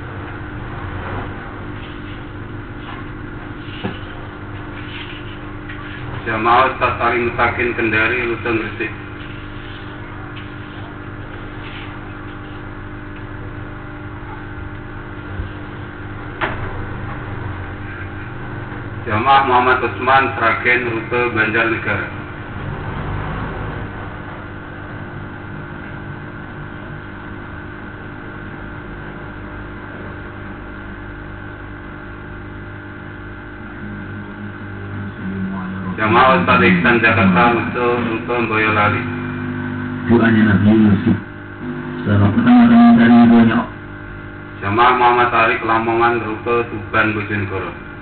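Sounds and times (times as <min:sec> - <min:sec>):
background hum and hiss: 0:00.0 - 0:48.0.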